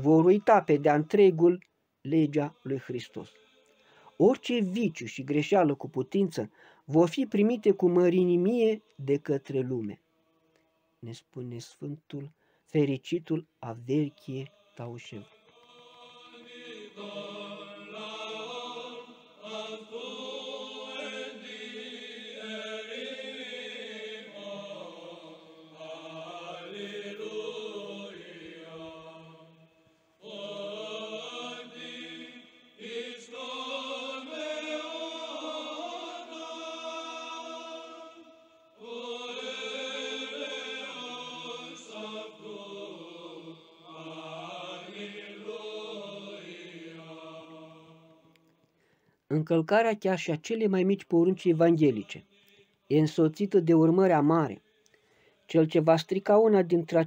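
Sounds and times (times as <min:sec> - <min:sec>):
voices singing religious chant: 0:00.0 - 0:11.2, 0:13.3 - 0:48.6, 0:51.3 - 0:57.0.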